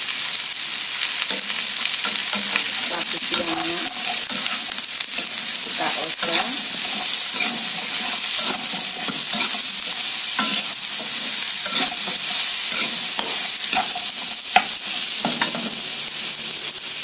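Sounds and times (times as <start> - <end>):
vegetables sizzling in hot oil: 0.0 - 17.0
metal turner scraping a pan: 1.2 - 15.9.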